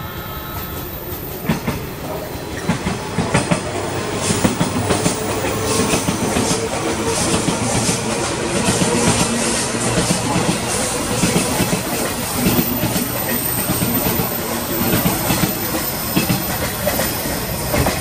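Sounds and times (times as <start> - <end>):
rumble of passing train carriages: 0.0 - 18.0
wheels clacking over rail joints: 0.5 - 18.0.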